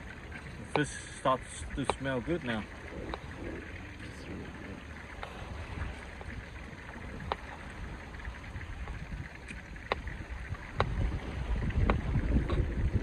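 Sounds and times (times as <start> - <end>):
wind and surf: 0.0 - 13.0.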